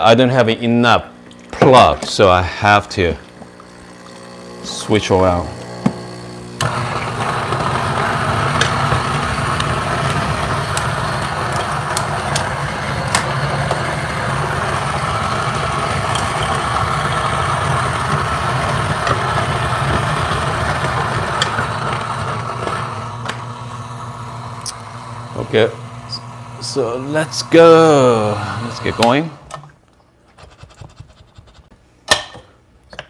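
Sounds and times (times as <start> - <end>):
electric coffee grinder motor: 2.7 - 29.7.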